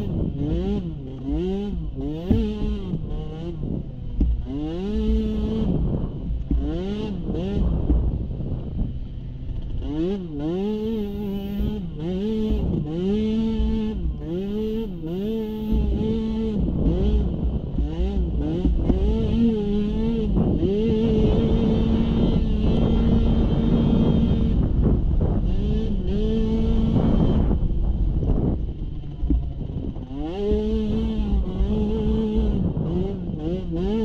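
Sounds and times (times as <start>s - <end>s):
small atv engine revving: 0.0s - 34.0s.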